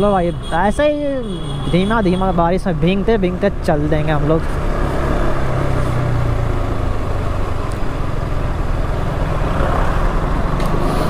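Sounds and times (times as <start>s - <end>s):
road and air noise hiss: 0.2s - 11.0s.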